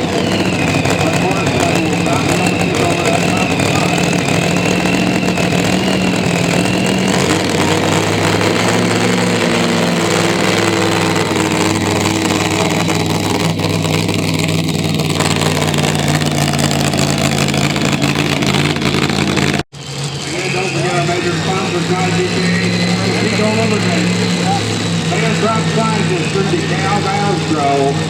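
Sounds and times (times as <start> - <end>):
truck engine running loud: 0.0 - 28.0.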